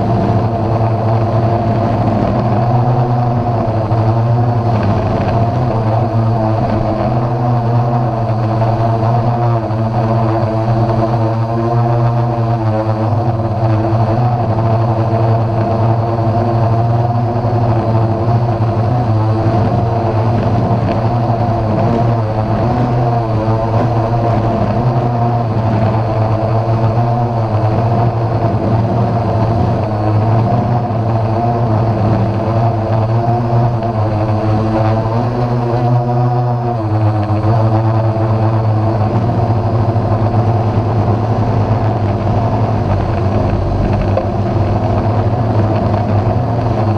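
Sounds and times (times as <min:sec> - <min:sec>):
quadcopter propellers buzzing: 0:00.0 - 0:46.9.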